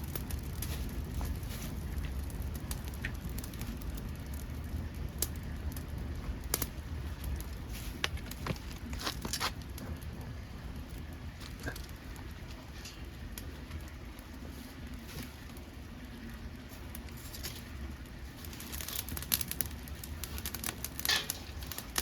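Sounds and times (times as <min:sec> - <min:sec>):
wood stove fire crackling: 0:00.0 - 0:22.0.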